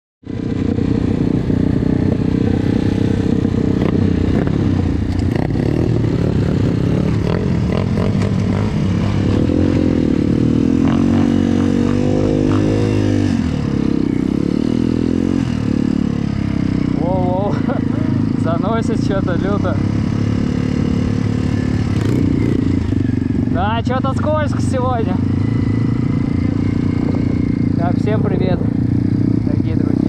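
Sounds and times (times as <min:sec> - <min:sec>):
motorbike engine revving: 0:00.2 - 0:30.0.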